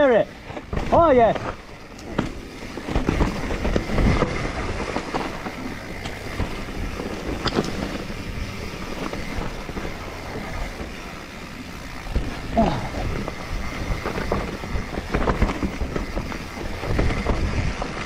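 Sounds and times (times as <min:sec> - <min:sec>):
bike rattling: 0:00.0 - 0:18.0
bike tyres over stones and roots: 0:00.0 - 0:18.0.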